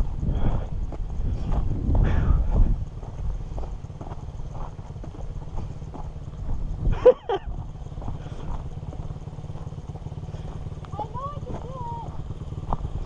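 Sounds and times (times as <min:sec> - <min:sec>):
dirt bike engine burbling: 0:00.0 - 0:13.0.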